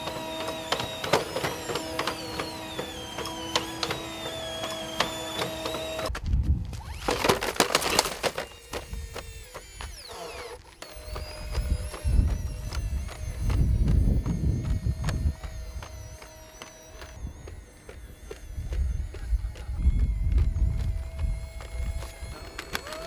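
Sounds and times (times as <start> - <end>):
robot hydraulic whine: 0.0 - 6.1, 8.2 - 23.0.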